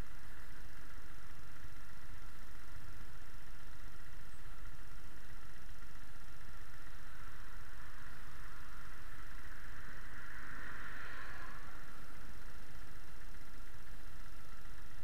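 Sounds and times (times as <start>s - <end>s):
constant hiss: 0.0s - 15.0s
motorcycle engine idling: 0.0s - 15.0s.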